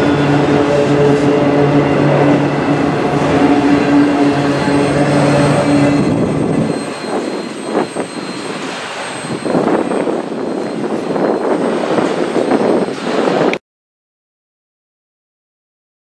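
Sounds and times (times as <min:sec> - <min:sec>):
steady tone: 0:00.0 - 0:13.5
freight train wheels rumbling: 0:00.0 - 0:13.6.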